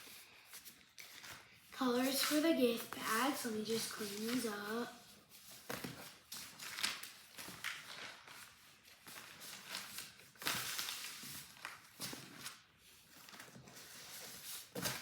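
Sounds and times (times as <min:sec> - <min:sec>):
gift bags rustling and crinkling: 0:00.0 - 0:15.0.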